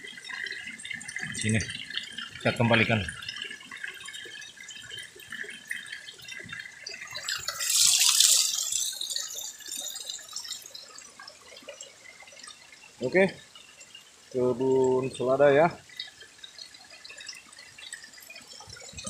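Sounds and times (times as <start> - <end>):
stream water trickling: 0.0 - 19.0.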